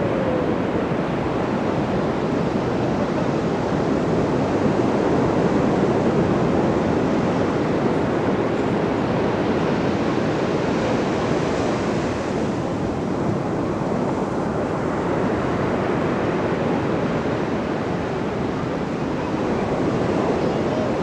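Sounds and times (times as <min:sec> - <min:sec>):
ocean surf breaking on shore: 0:00.0 - 0:21.0.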